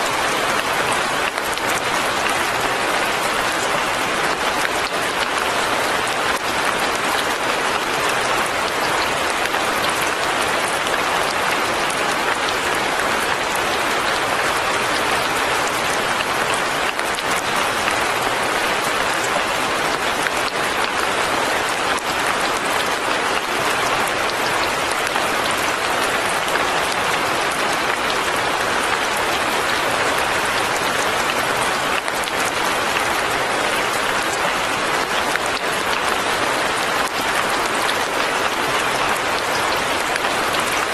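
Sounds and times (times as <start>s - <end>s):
light rain pattering: 0.0s - 40.9s.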